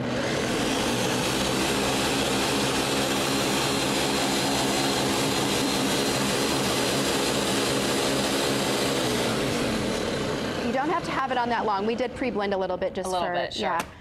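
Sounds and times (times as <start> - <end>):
blender motor whine: 0.0 - 11.9.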